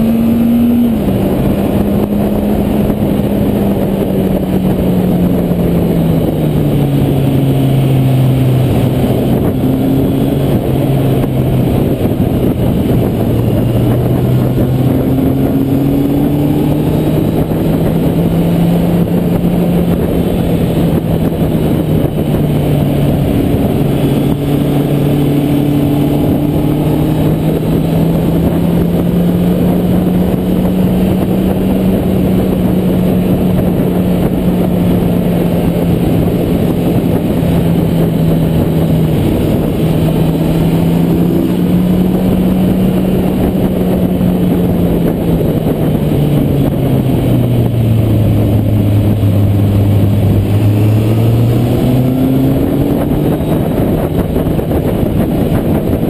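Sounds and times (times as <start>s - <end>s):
motorcycle engine running: 0.0s - 56.0s
road noise: 0.0s - 56.0s
wind noise: 0.0s - 56.0s.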